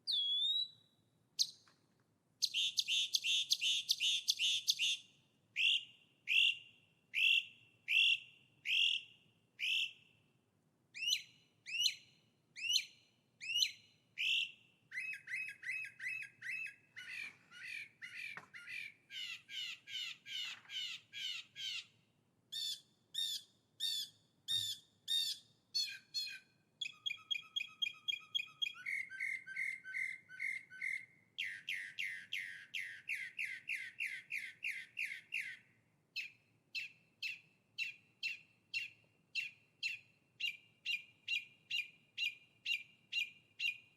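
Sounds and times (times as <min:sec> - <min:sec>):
songbird singing: 0:00.0 - 0:10.3, 0:10.9 - 0:43.9.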